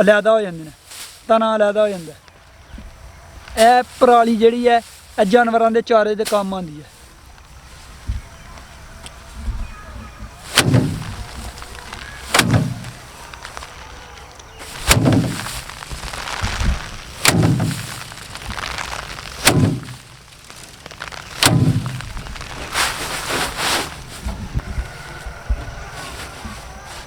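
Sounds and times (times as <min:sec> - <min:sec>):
rice stalks beaten against drum: 0:00.0 - 0:27.0
straw rustling: 0:00.0 - 0:27.0.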